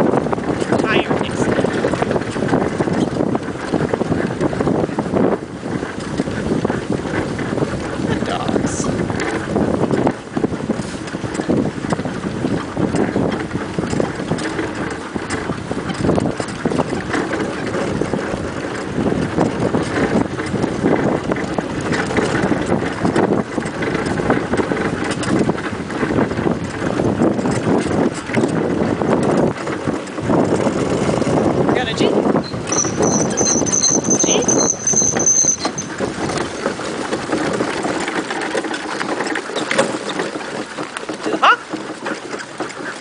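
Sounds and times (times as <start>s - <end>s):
cart rolling over dirt trail: 0.0s - 43.0s
wind on microphone: 0.0s - 43.0s.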